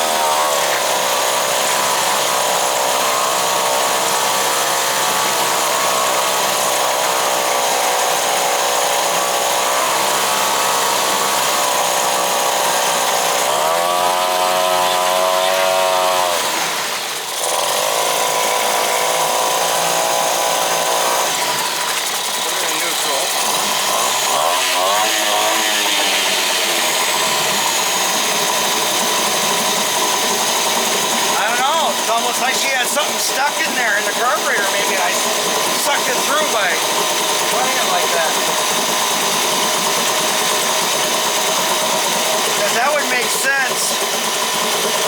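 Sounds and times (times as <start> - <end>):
two-stroke outboard motor running: 0.0 - 45.0.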